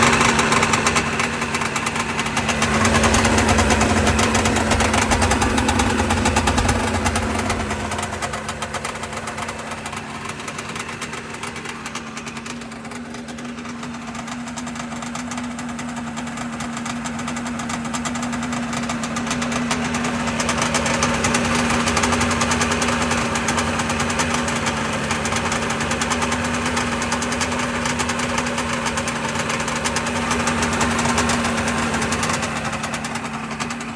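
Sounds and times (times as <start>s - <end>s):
two-stroke engine running: 0.0s - 33.9s.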